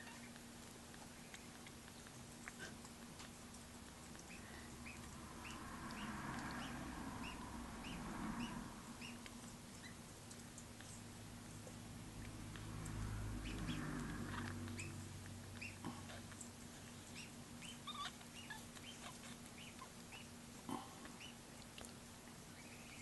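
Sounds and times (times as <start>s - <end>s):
kitten sucking wet smacking: 0.0s - 7.4s, 8.9s - 23.0s.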